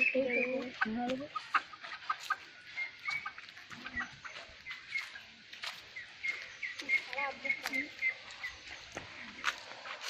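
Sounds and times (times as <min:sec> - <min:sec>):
chickens clucking: 0:00.0 - 0:10.0
chicks cheeping: 0:00.0 - 0:10.0.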